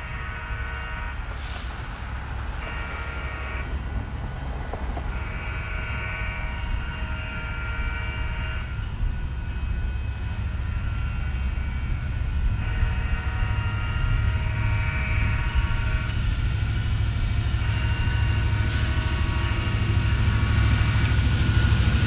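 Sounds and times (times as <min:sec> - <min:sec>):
locomotive air horn blasts: 0:00.0 - 0:22.0
low rumble of train: 0:00.0 - 0:22.0.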